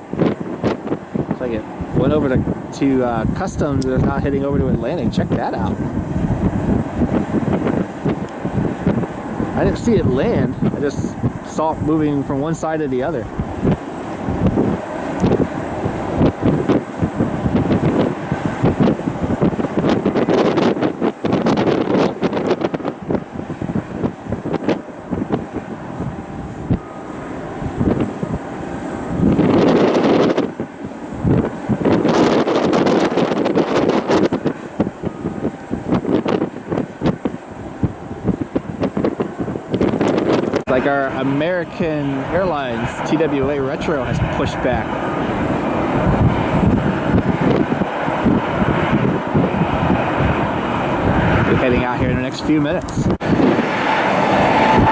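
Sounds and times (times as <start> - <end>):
jet airliner engines: 0.0 - 54.9
wind buffeting microphone: 0.0 - 54.9.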